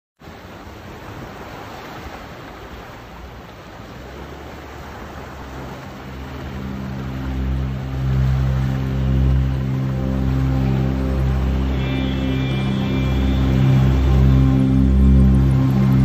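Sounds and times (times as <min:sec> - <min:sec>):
waves washing over rocks: 0:00.2 - 0:16.0
engine hum: 0:02.4 - 0:16.0.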